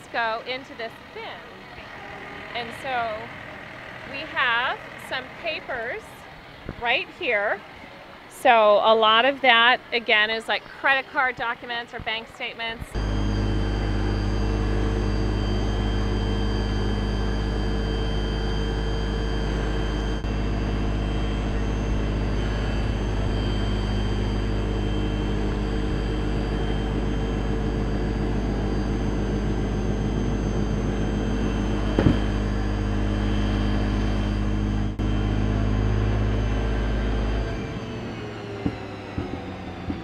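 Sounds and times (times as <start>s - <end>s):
machinery mechanical hum: 0.0s - 40.0s.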